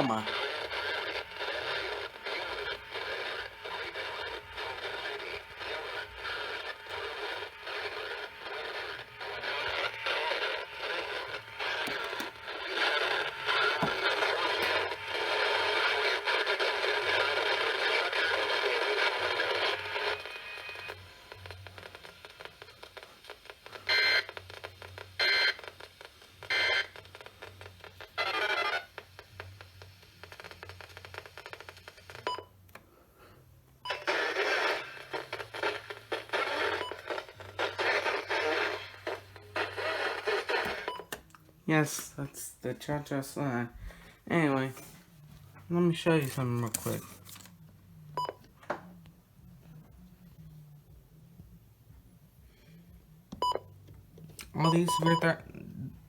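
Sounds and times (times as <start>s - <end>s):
radio static hiss: 0.0s - 32.4s, 33.0s - 48.4s, 54.4s - 56.0s.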